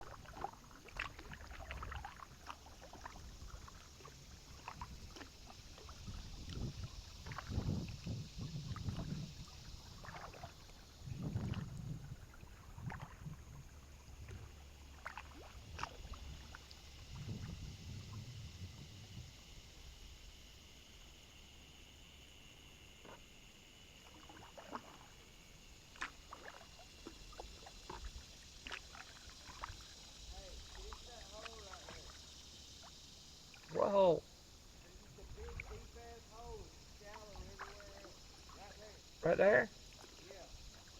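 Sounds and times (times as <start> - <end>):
paddle splashes and drips: 0.0 - 40.9.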